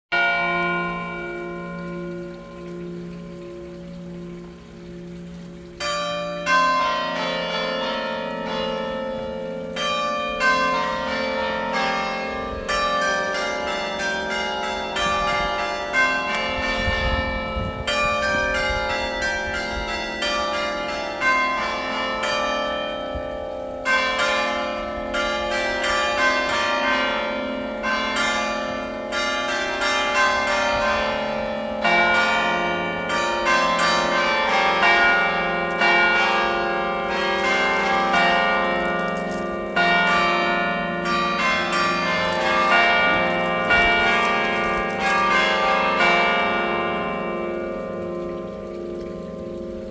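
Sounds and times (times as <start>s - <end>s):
church bells ringing: 0.1s - 49.9s.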